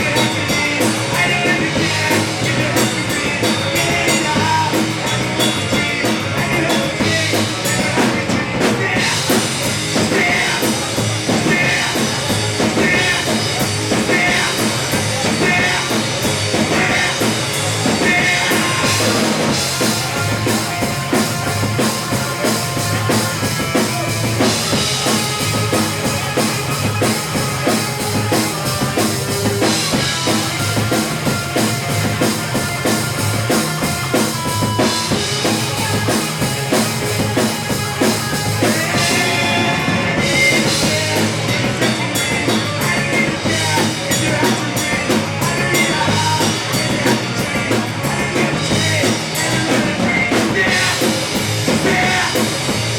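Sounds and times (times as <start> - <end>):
bass guitar: 0.0 - 52.9
drum kit beat: 0.0 - 52.9
electric guitar: 0.0 - 52.9.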